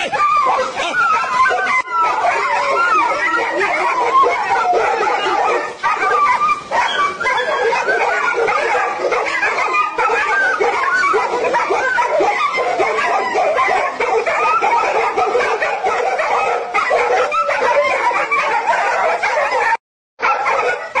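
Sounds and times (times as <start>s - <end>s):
dogs barking and yelping: 0.0s - 21.0s.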